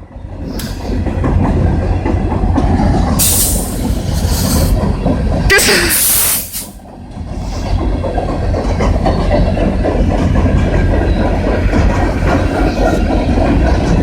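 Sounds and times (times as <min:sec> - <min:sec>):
freight train rumbling past: 0:00.0 - 0:14.0
wheels clattering over rail joints: 0:00.1 - 0:05.5, 0:06.9 - 0:14.0.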